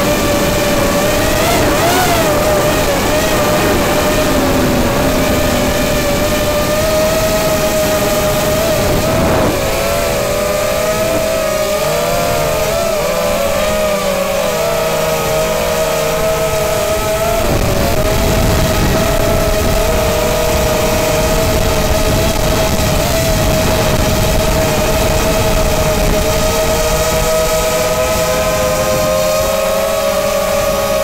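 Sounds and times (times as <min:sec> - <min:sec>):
drone motors and propellers whining: 0:00.0 - 0:31.0.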